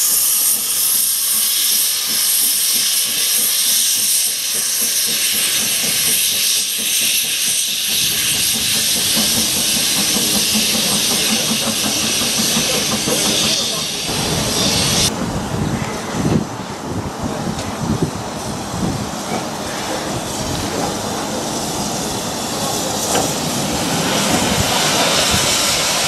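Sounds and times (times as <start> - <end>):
steam hissing: 0.0 - 15.2, 17.8 - 26.0.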